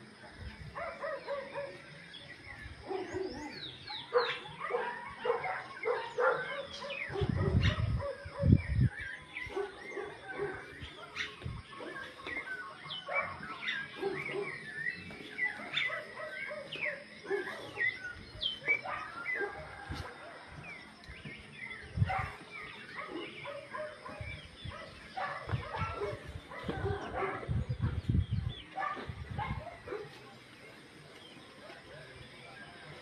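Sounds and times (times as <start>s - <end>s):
birds chirping and whistling: 0.0s - 33.0s.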